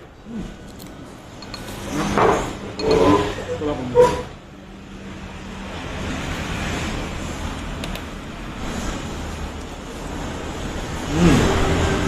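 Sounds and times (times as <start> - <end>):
road traffic going by: 0.0 - 12.0.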